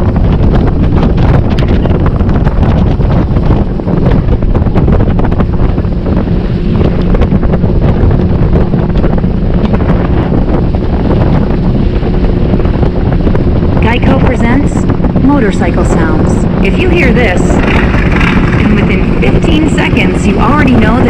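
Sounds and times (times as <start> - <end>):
boat motor droning: 0.0 - 21.0
wind buffeting microphone: 0.0 - 21.0.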